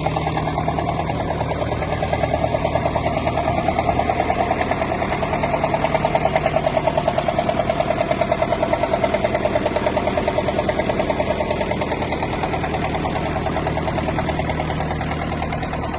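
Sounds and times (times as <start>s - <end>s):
tractor engine idling: 0.0s - 15.9s.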